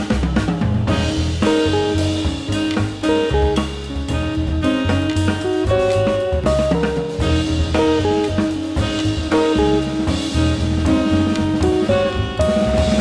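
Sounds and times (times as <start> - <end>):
bass: 0.0 - 13.0
drum kit: 0.0 - 13.0
guitar: 0.0 - 13.0
piano: 0.0 - 13.0
saxophone melody: 0.9 - 13.0.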